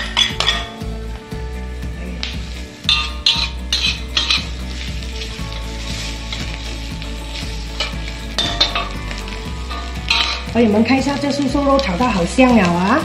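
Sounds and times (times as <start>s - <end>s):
metal spatula scraping a pan: 0.0s - 0.8s, 2.2s - 12.9s
food sizzling in a wok: 0.0s - 13.0s.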